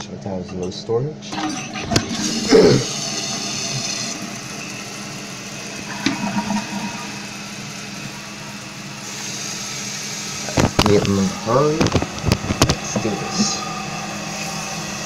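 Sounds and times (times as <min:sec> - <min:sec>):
toilet flushing: 0:01.2 - 0:15.0
fill valve hissing: 0:01.3 - 0:15.0.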